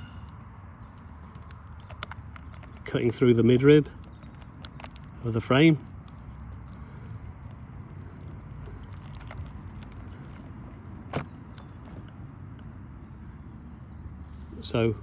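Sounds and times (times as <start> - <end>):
beeswax comb crackling: 0.0 - 12.6.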